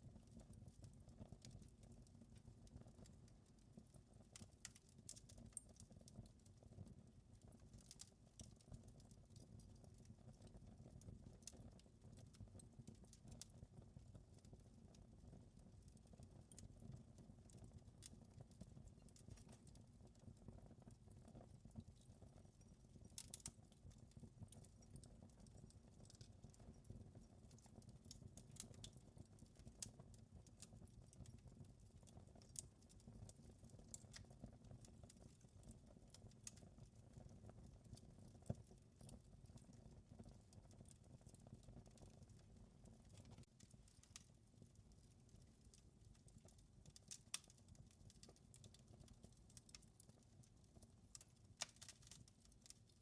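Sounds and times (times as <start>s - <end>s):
wood fire crackling: 0.2s - 53.0s.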